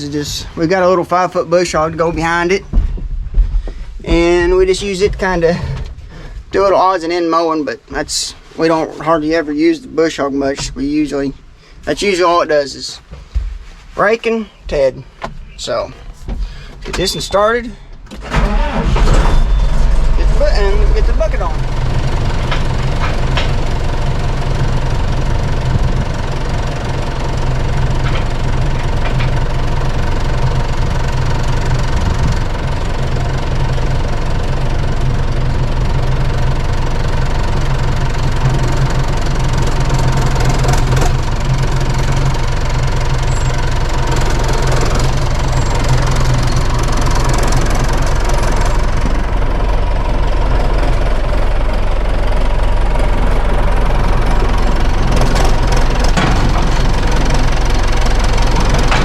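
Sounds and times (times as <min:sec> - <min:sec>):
tractor engine running: 0:00.0 - 0:12.4, 0:13.4 - 0:59.0.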